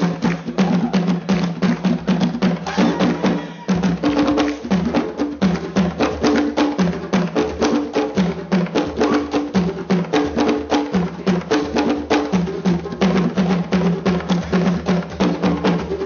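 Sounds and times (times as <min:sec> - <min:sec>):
drums playing fast rhythm: 0:00.0 - 0:16.0.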